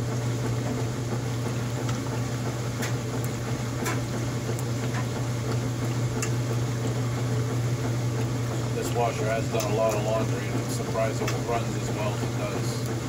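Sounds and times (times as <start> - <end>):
washing machine motor hum: 0.0 - 13.0
water churning: 0.0 - 13.0.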